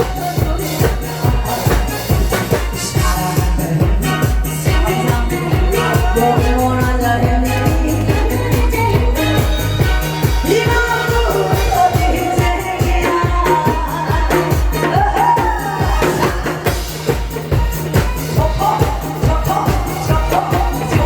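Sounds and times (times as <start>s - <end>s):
backing track with fast beat: 0.0s - 21.0s
person singing: 0.0s - 21.0s.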